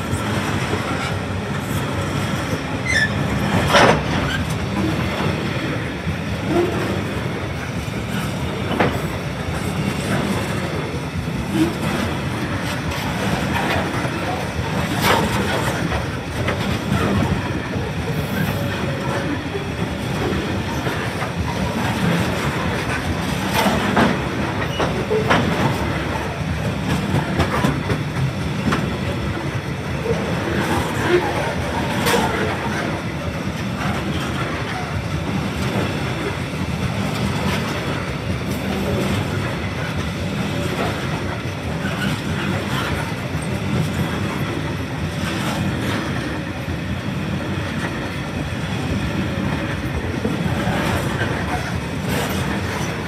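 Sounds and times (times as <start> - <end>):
steel wheels rumbling on rail: 0.0 - 53.0
wheels clicking over rail joints: 0.1 - 46.8, 47.4 - 53.0.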